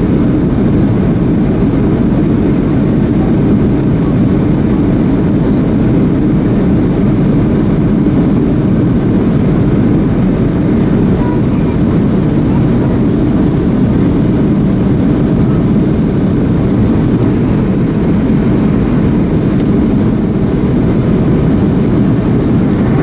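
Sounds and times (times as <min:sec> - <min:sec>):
airplane cabin jet engine drone: 0:00.0 - 0:23.0.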